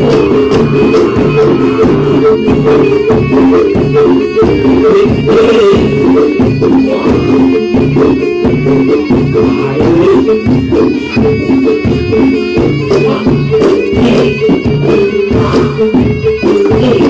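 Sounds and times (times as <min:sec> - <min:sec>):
drum and percussion strokes: 0:00.0 - 0:17.0
live ensemble music: 0:00.0 - 0:17.0.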